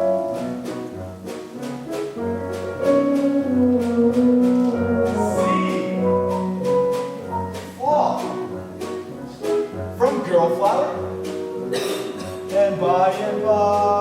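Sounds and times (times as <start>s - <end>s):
instrumental show tune: 0.0s - 14.0s.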